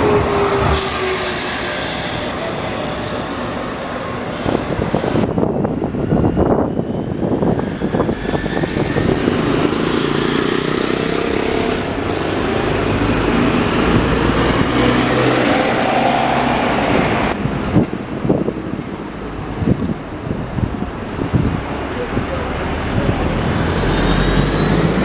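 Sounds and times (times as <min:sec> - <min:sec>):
bus engines driving past: 0:00.0 - 0:25.0.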